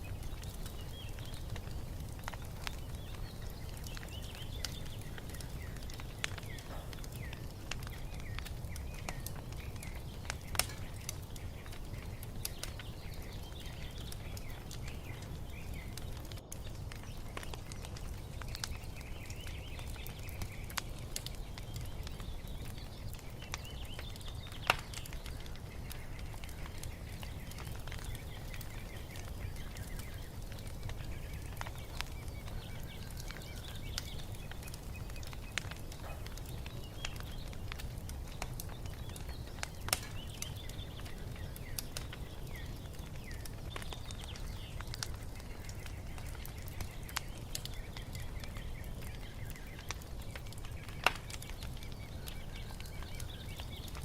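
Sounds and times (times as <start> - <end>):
small birds chirping: 0.0 - 54.0
wood fire crackling: 0.0 - 54.0.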